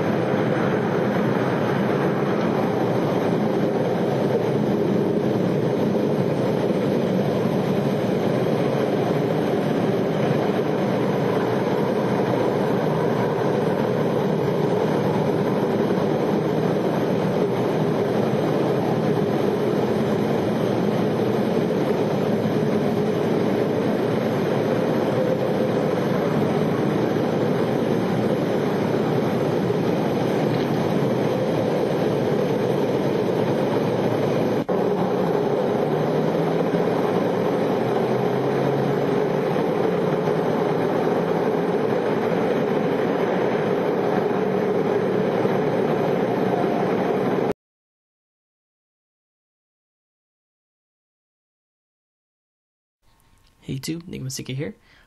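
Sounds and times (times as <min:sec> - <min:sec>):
loud steady roar: 0:00.0 - 0:47.5.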